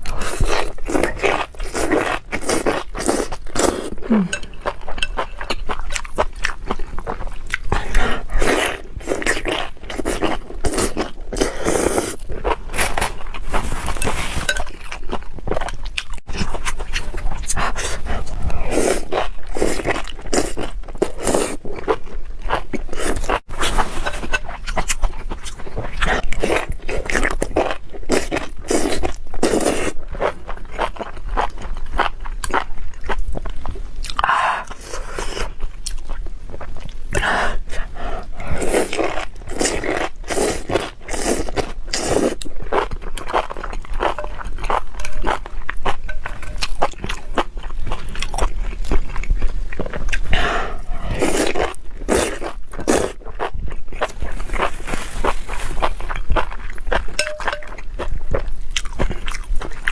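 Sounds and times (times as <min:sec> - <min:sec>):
wet crackly chewing: 0:00.0 - 0:59.9.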